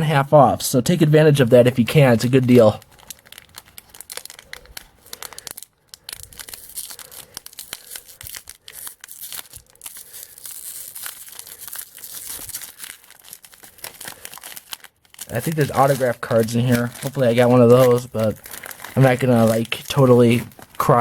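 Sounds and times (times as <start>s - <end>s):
wrapper tearing and crinkling: 2.0s - 21.0s.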